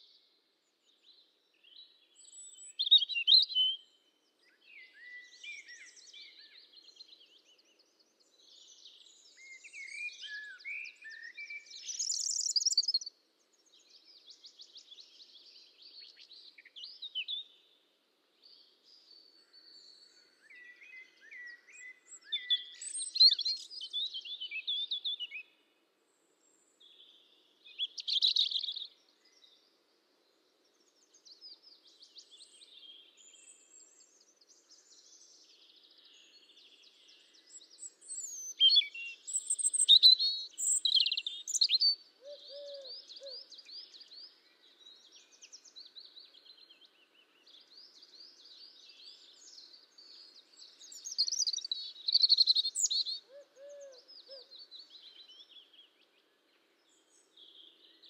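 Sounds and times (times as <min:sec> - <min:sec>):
songbirds chirping and singing: 0:00.9 - 0:25.7, 0:26.5 - 0:58.0.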